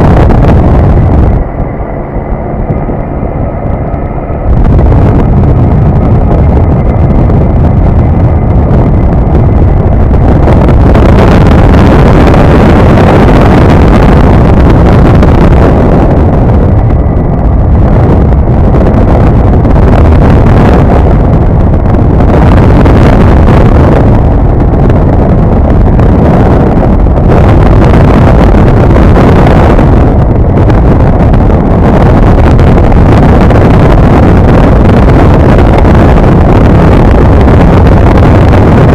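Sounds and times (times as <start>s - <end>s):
aircraft engine drone: 0.0s - 38.9s
wind buffeting microphone: 0.0s - 38.9s.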